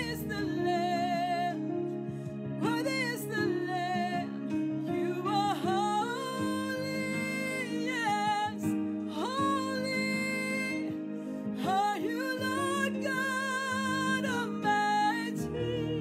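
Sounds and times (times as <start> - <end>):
sustained instrumental backing: 0.0 - 16.0
woman singing slow song: 0.0 - 16.0.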